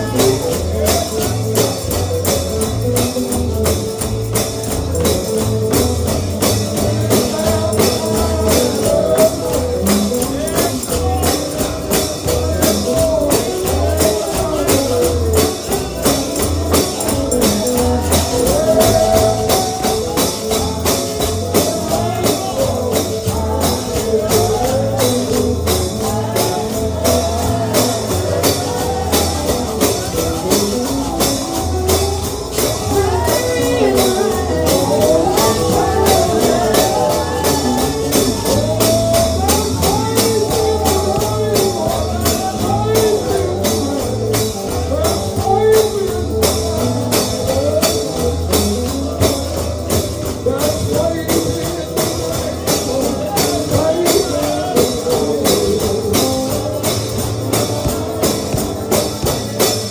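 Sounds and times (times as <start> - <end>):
bluegrass gospel music: 0.0 - 59.9
tambourine rhythm: 0.0 - 59.9.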